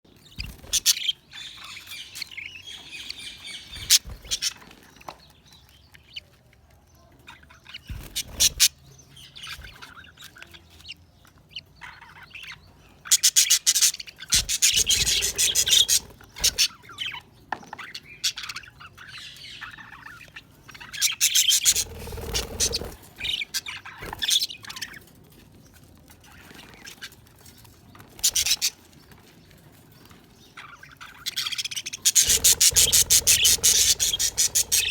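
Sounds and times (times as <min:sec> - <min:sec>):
budgerigars chirping and squawking: 0:00.1 - 0:06.4, 0:07.2 - 0:25.1, 0:26.2 - 0:29.4, 0:30.0 - 0:34.9.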